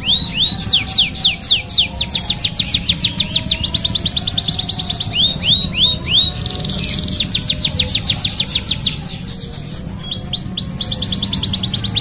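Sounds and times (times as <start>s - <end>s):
canary singing: 0.0s - 12.0s.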